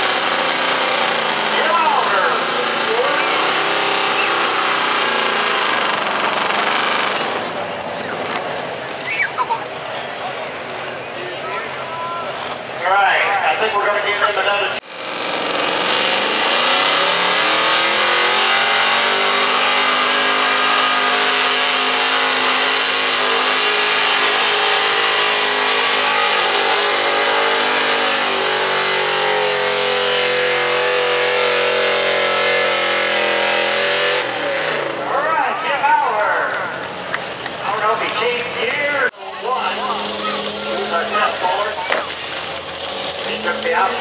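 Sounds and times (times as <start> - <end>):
pickup engine at full throttle: 0.0 - 9.0, 14.8 - 44.0.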